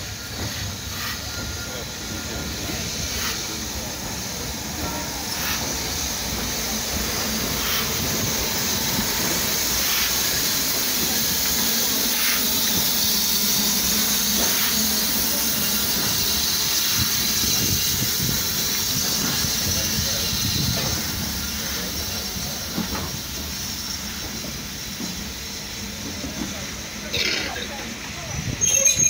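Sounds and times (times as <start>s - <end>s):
steam locomotive hissing steam: 0.0s - 29.0s.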